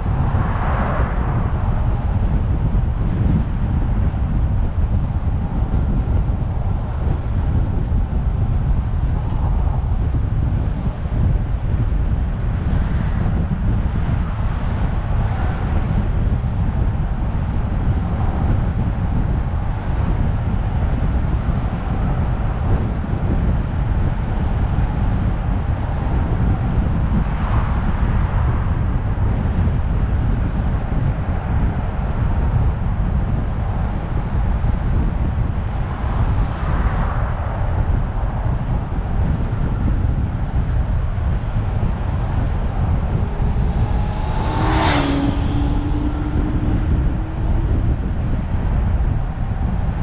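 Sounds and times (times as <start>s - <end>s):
road noise rumble: 0.0s - 50.0s
traffic noise: 0.0s - 50.0s
wind buffeting microphone: 0.0s - 50.0s.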